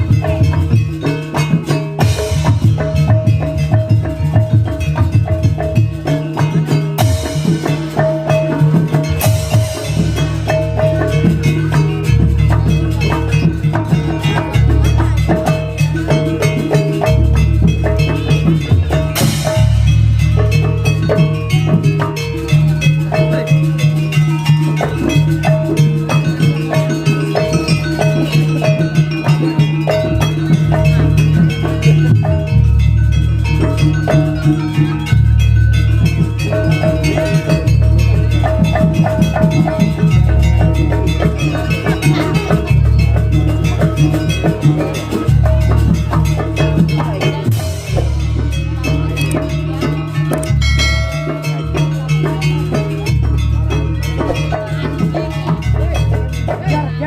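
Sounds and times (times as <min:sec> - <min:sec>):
gamelan percussion music: 0:00.0 - 0:57.0.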